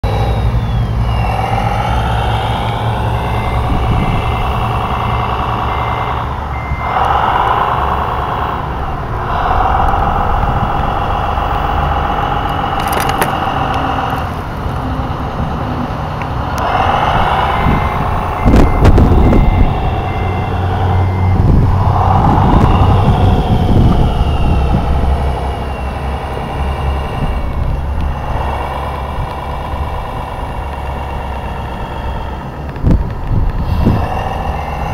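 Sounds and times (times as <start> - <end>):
electronic reversing beeper: 0.0 - 14.3, 16.4 - 32.7, 33.7 - 34.9
simulated diesel engine revving: 0.0 - 34.9.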